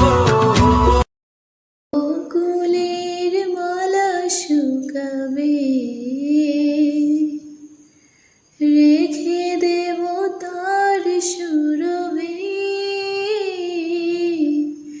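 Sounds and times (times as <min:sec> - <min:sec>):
woman singing slow romantic tune: 0:02.0 - 0:07.9, 0:08.6 - 0:15.0.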